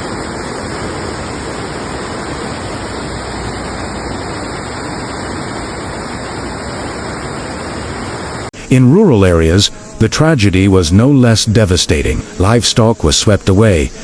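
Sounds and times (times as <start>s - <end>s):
water rushing: 0.0s - 14.0s.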